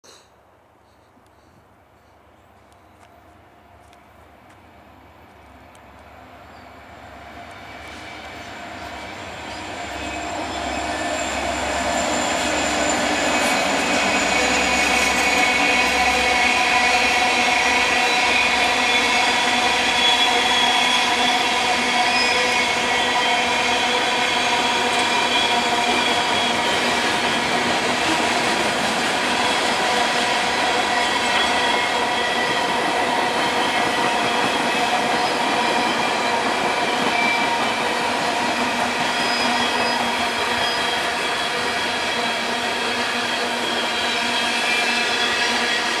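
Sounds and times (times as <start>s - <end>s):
train wheels squealing on rails: 6.2s - 46.0s.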